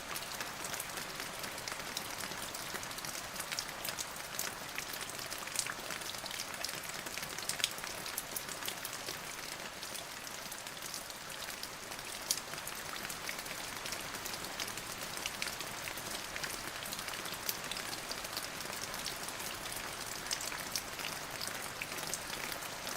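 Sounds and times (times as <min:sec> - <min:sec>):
raindrops pattering: 0:00.0 - 0:22.9
steady rain hiss: 0:00.0 - 0:22.9.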